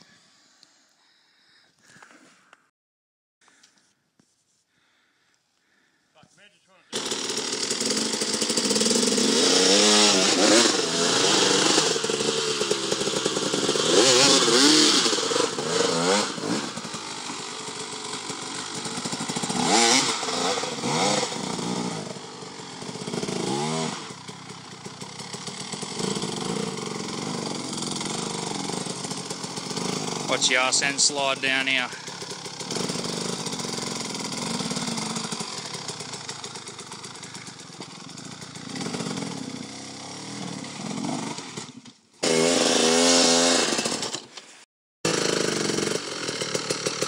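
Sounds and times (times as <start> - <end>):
dirt bike engine revving: 6.9 - 44.3, 45.1 - 47.0.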